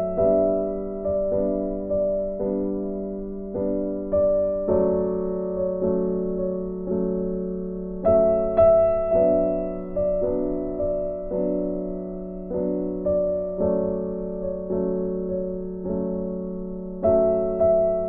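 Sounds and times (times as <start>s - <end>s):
soft piano chords: 0.0s - 18.0s.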